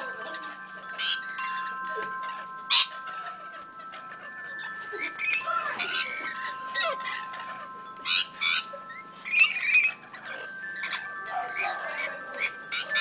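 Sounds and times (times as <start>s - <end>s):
metal wind chimes ringing: 0.0s - 13.0s
parrots squawking: 0.0s - 13.0s.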